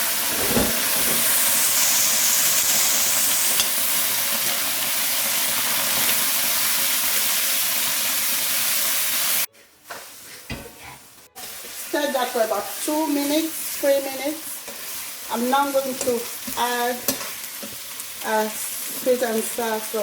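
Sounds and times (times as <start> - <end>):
vegetables sizzling in a wok: 0.0 - 20.0.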